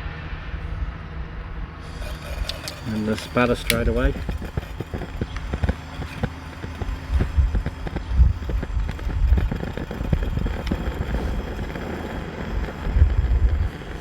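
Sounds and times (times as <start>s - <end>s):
flame crackling: 1.8s - 14.0s
pressure lantern rumbling: 1.8s - 14.0s.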